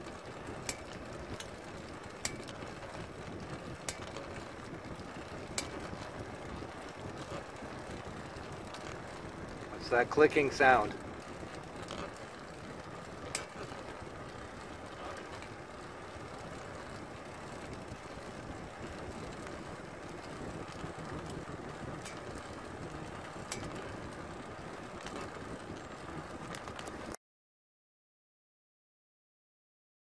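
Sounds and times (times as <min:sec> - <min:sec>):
bicycle chain whirring: 0:00.0 - 0:27.2
bicycle sharp clicks: 0:00.0 - 0:27.2.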